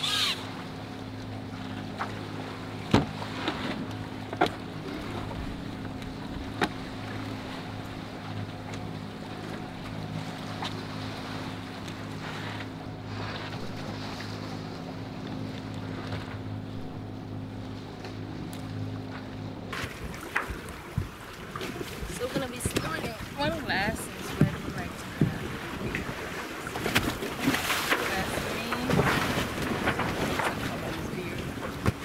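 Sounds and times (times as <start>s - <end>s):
low mechanical hum: 0.0s - 32.0s
water noise: 0.0s - 32.0s
wind: 0.0s - 32.0s.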